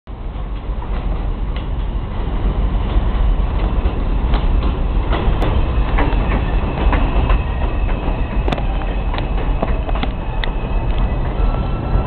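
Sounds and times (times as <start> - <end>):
train rumbling on track: 0.1 - 12.0.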